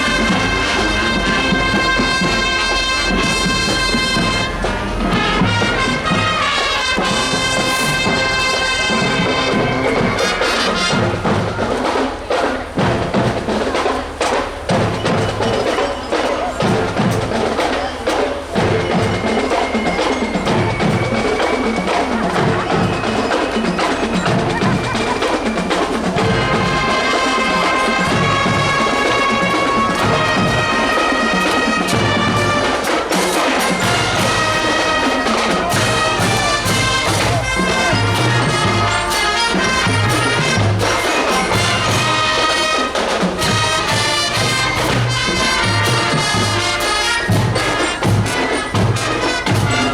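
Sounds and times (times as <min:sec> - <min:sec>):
brass chords: 0:00.0 - 0:49.9
marching drums beat: 0:00.0 - 0:49.9.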